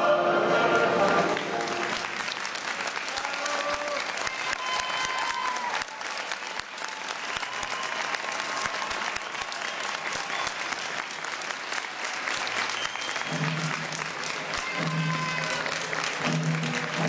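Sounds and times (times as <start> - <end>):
audience applauding: 0.6 - 17.0.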